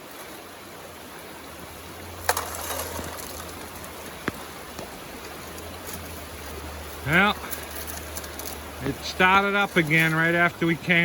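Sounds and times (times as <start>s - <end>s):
flowing river water: 0.0s - 11.0s
light rain: 0.0s - 11.0s.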